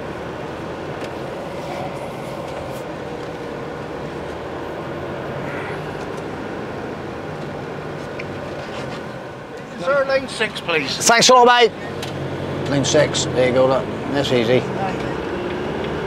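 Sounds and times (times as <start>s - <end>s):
diesel engine humming: 0.0s - 16.0s
road noise: 0.0s - 16.0s.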